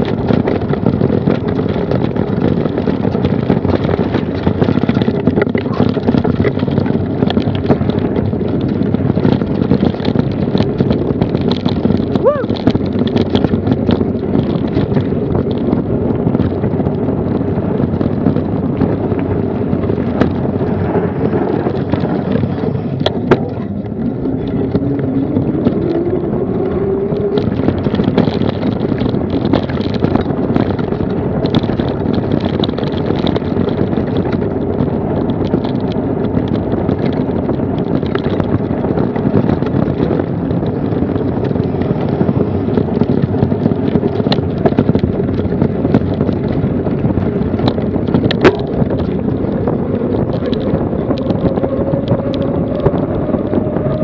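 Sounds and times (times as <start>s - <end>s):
bike rattling and knocking: 0.0s - 54.0s
tyres rolling over gravel: 0.0s - 54.0s
wind rushing over microphone: 0.0s - 54.0s.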